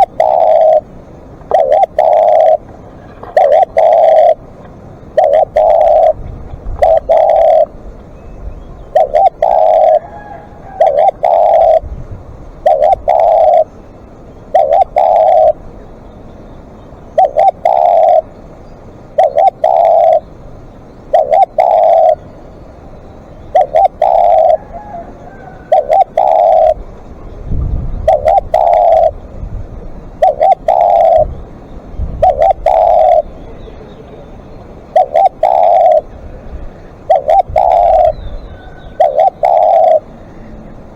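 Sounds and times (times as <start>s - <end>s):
dove cooing: 0.0s - 13.8s, 14.4s - 15.8s, 17.1s - 18.3s, 19.1s - 20.4s, 21.1s - 22.5s, 23.3s - 40.9s.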